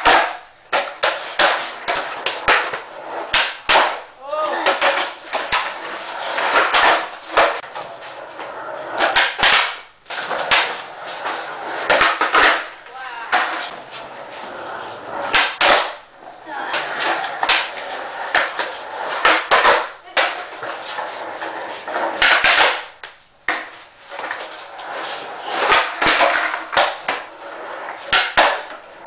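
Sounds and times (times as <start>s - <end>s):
skateboard clacking on concrete: 0.0s - 29.0s
skateboard wheels rolling on concrete: 0.0s - 29.0s.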